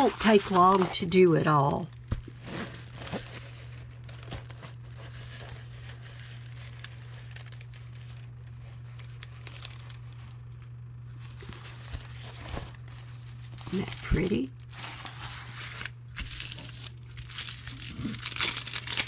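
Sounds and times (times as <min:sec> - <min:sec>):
plastic packaging crinkling: 0:00.0 - 0:19.0
small crackles: 0:00.0 - 0:19.0
steady low hum: 0:00.0 - 0:19.0.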